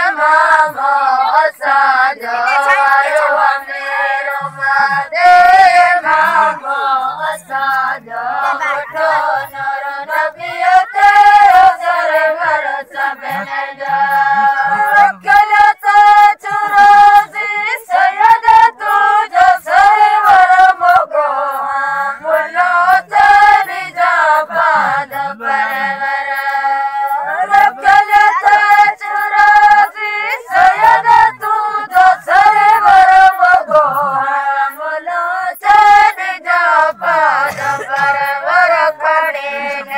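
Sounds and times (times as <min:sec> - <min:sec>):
women singing folk song: 0:00.0 - 0:39.9.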